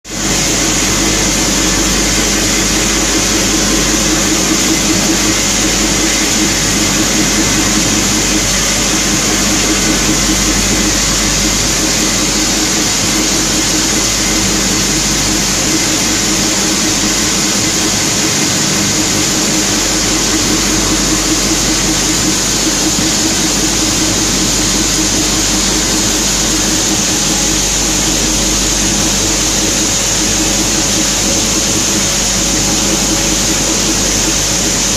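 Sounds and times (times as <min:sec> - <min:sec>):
machinery running: 0:00.1 - 0:34.9.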